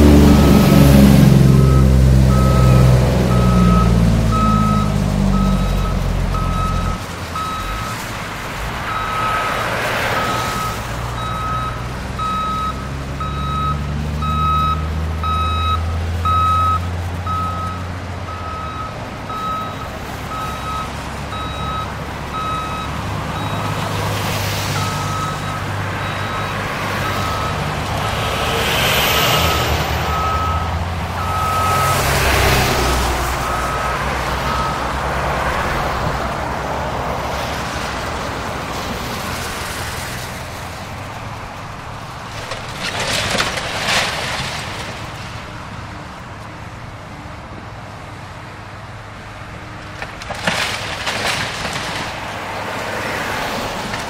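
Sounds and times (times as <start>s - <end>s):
diesel engine hum: 0.0s - 54.0s
passing road traffic: 0.0s - 54.0s.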